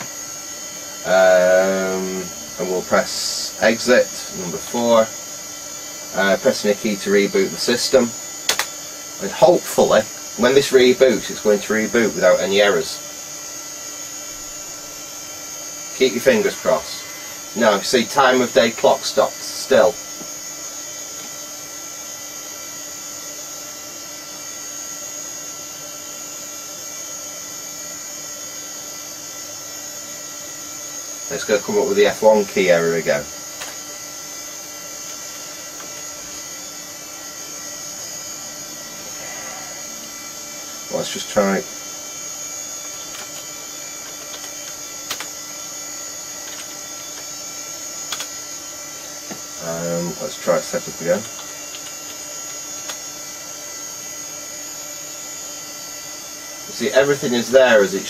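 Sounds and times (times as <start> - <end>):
computer fan and drive whirring: 0.0 - 58.0
faint high constant tones: 0.0 - 58.0.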